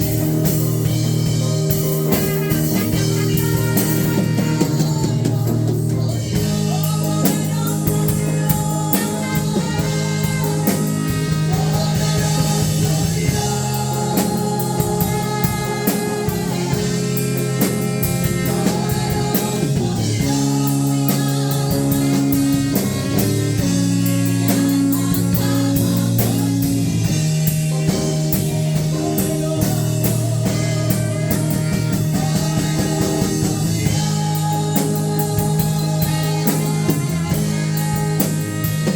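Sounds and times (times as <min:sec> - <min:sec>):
bass guitar: 0:00.0 - 0:38.9
drum kit beat: 0:00.0 - 0:38.9
electric guitar chords: 0:00.0 - 0:38.9.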